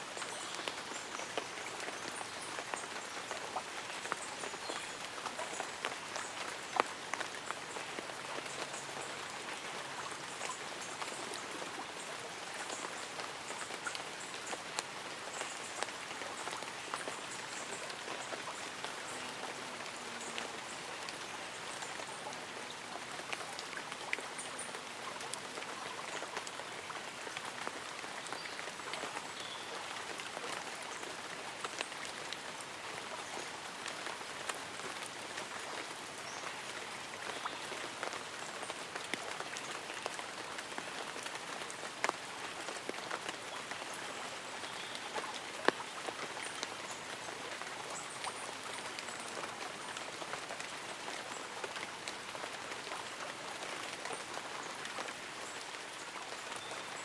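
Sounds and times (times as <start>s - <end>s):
gentle stream running: 0.0s - 57.0s
rain pattering on leaves and umbrella: 0.0s - 57.0s.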